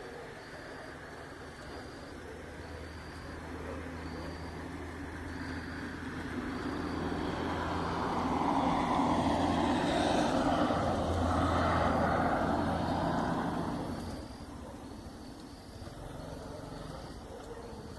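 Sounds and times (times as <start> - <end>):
road vehicle passing: 1.7 - 17.9.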